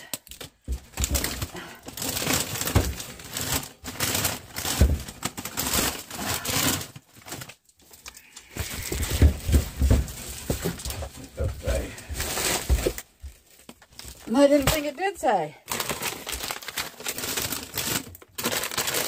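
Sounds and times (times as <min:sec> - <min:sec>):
grocery bags crinkling: 0:00.0 - 0:19.0.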